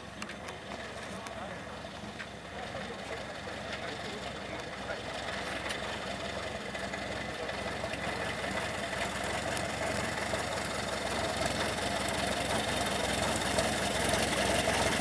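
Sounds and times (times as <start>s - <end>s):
propeller plane engine running: 0.0s - 15.0s.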